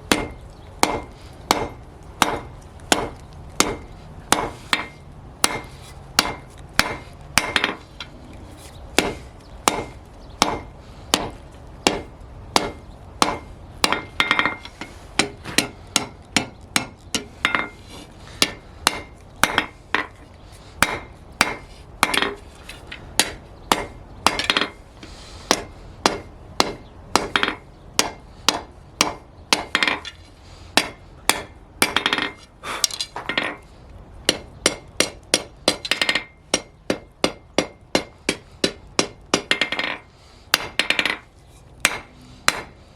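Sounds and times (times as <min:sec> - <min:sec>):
hammer striking steel on anvil: 0:00.1 - 0:08.1, 0:09.0 - 0:12.0, 0:12.6 - 0:17.8, 0:18.4 - 0:20.2, 0:20.8 - 0:22.4, 0:23.2 - 0:24.8, 0:25.5 - 0:30.1, 0:30.8 - 0:32.4, 0:34.3 - 0:41.2, 0:41.8 - 0:42.8.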